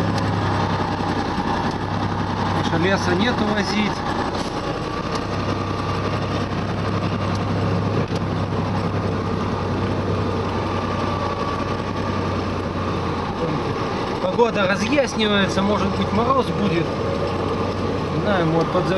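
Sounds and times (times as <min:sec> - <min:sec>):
road noise: 0:00.0 - 0:18.9
truck engine running: 0:00.0 - 0:18.9.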